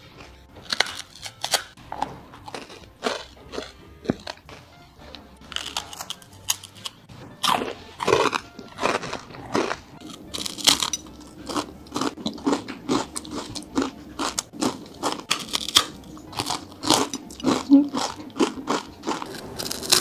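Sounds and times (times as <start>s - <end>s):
crunchy chewing of crackers: 0.0s - 20.0s.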